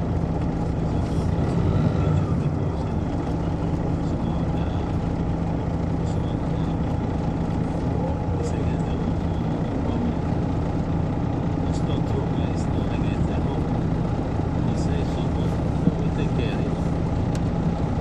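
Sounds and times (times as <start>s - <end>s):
diesel bus engine droning: 0.0s - 18.0s.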